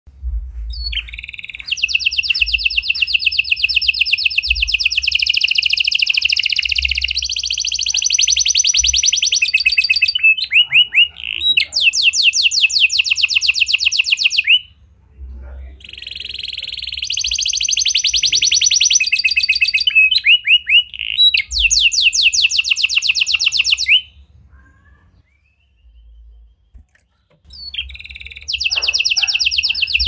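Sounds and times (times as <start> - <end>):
canary singing in trills: 0.6 - 30.0.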